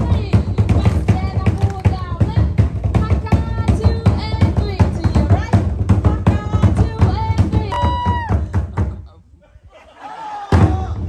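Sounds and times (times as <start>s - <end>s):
rapid drumming: 0.0s - 9.1s, 10.5s - 11.0s
voices singing: 0.0s - 11.0s.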